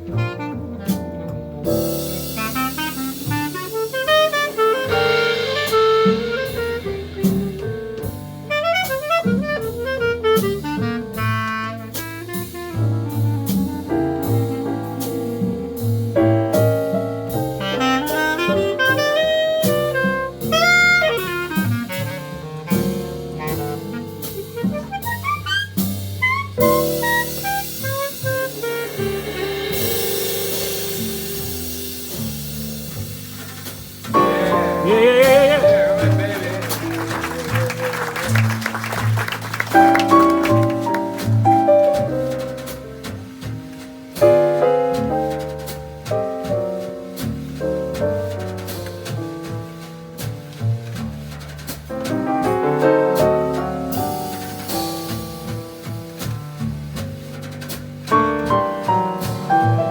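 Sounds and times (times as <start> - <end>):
drum kit: 0.0 - 59.9
piano: 0.0 - 59.9.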